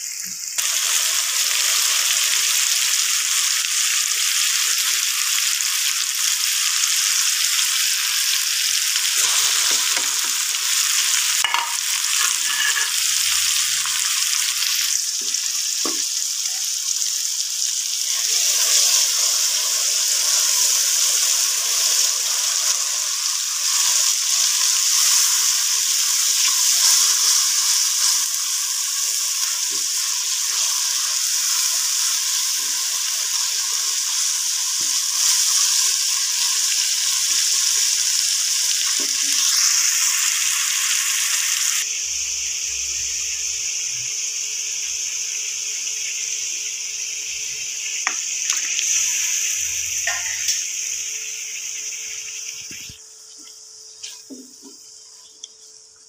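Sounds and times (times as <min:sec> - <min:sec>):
onions frying in hot oil: 0:00.0 - 0:56.0.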